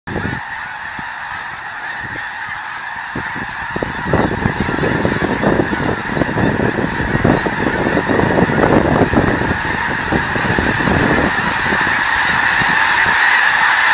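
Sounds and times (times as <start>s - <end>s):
geese honking: 0.1s - 13.9s
rush of wingbeats: 0.1s - 13.9s.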